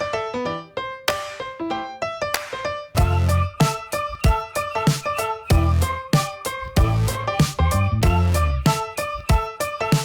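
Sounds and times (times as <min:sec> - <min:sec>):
instrumental music with steady beat: 0:01.1 - 0:10.0.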